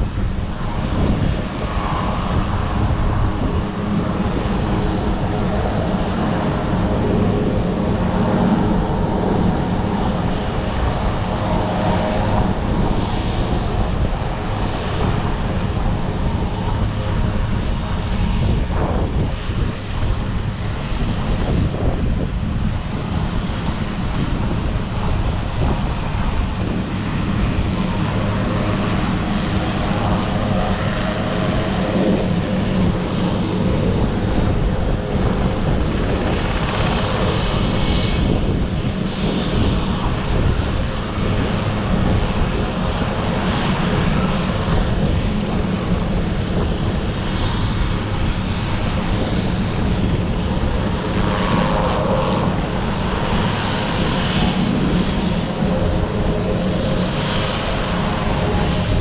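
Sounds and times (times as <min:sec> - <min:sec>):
helicopter engines and rotor running: 0:00.0 - 0:59.0.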